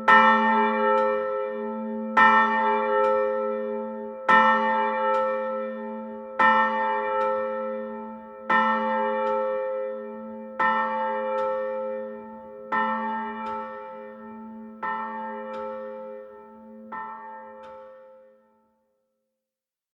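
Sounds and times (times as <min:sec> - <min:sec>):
church bell tolling: 0:00.0 - 0:18.6.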